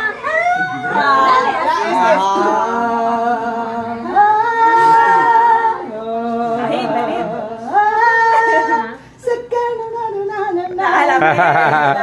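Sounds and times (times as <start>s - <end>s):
woman singing a cappella: 0.0s - 12.0s.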